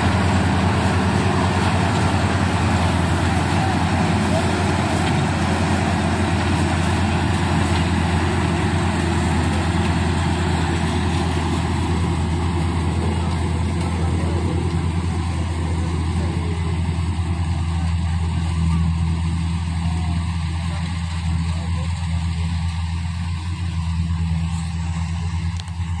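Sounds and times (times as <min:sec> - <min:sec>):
harvester engine droning: 0:00.0 - 0:26.0.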